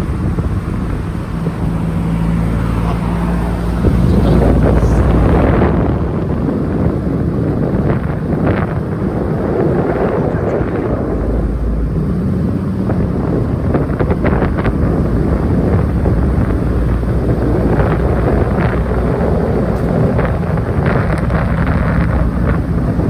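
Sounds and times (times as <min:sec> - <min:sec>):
moving car rumble: 0:00.0 - 0:23.0
wind buffeting microphone: 0:00.0 - 0:23.0.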